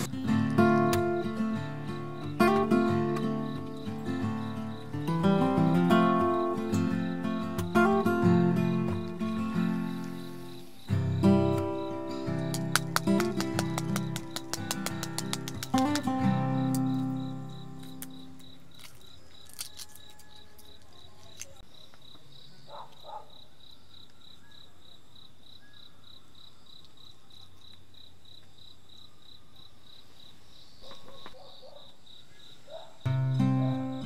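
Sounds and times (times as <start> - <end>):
cricket chirping: 0.0 - 34.0.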